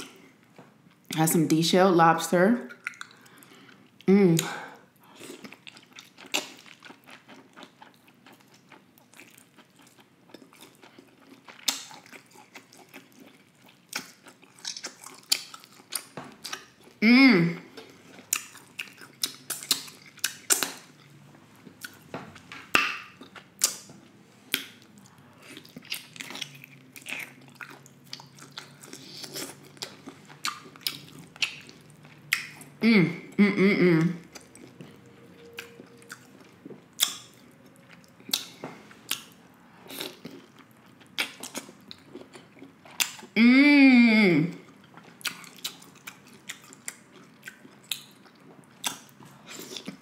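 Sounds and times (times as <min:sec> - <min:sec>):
wet chewing and lip smacks: 0:02.7 - 0:04.5, 0:05.2 - 0:17.0, 0:17.7 - 0:32.8, 0:34.3 - 0:43.3, 0:44.7 - 0:50.0.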